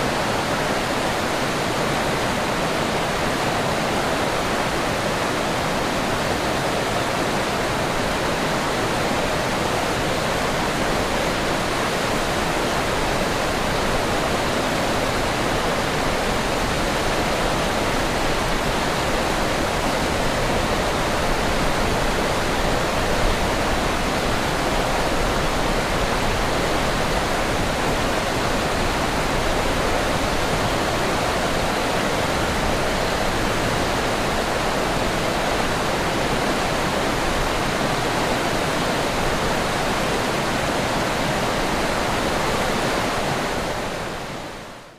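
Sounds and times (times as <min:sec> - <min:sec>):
river rushing over rocks: 0:00.0 - 0:44.9.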